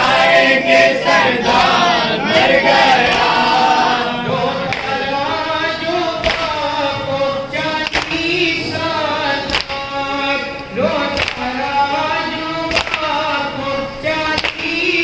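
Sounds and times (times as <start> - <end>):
group chanting a lament: 0.0 - 15.0.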